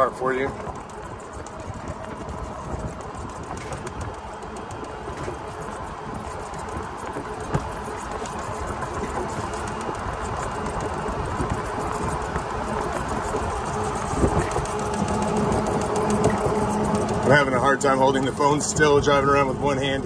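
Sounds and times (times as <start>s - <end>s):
steady electric whine: 0.0s - 20.0s
tyre and wind noise: 0.0s - 20.0s.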